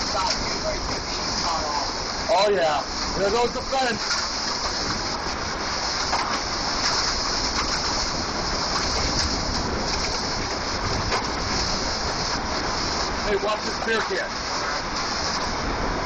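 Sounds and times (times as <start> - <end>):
storm wind blowing hard: 0.0 - 16.0
wind buffeting microphone: 0.0 - 16.0.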